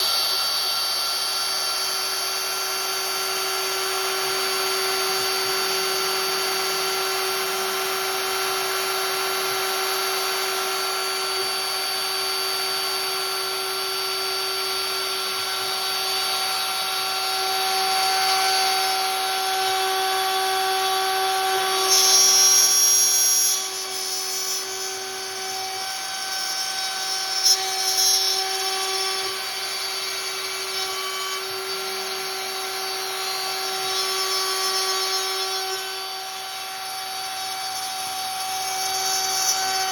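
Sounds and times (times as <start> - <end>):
router spindle whine milling wood: 0.0 - 39.9.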